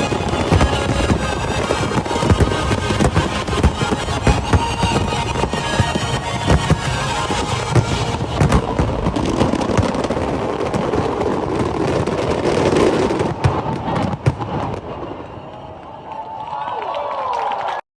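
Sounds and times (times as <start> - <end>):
fireworks crackling: 0.0 - 16.1
fireworks bangs: 0.0 - 16.2.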